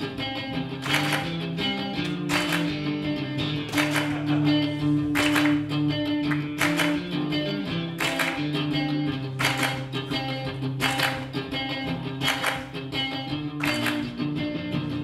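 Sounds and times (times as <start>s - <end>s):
strummed guitar: 0.0s - 15.0s.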